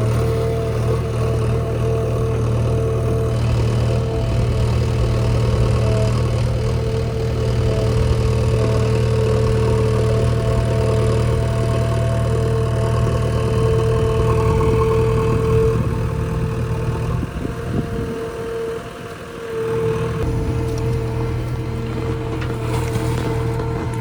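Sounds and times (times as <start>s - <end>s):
diesel engine running: 0.0s - 24.0s
steady whine: 0.7s - 24.0s.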